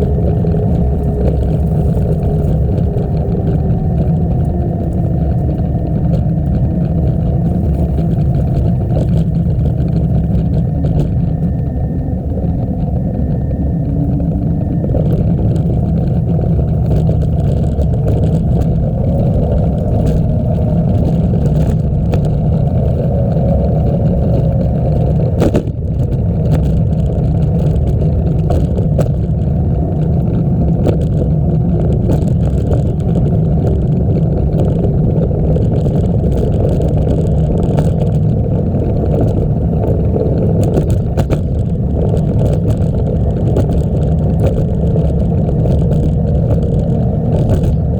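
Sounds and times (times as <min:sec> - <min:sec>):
bicycle tyres rolling: 0:00.0 - 0:47.9
wind buffeting microphone: 0:00.0 - 0:47.9.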